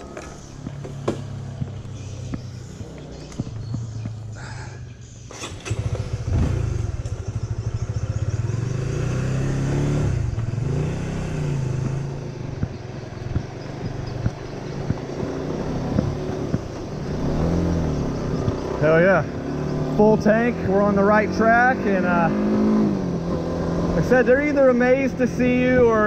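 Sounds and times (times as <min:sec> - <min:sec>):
motorbike engine accelerating: 0:00.0 - 0:26.0.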